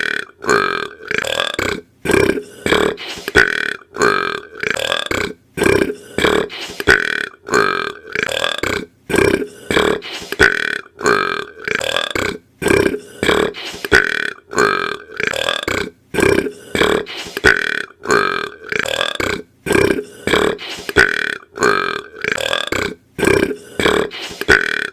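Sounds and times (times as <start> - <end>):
boy burping: 0.0 - 24.9.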